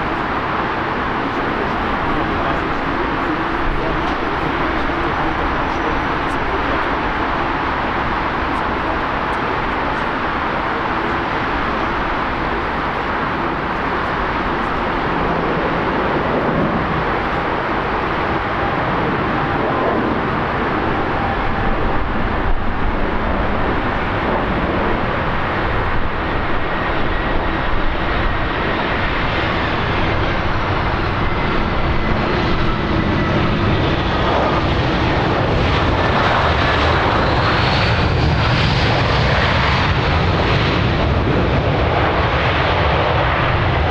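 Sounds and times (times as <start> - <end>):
whining engine tones: 0.0 - 38.2
airliner engines rushing: 0.0 - 43.9.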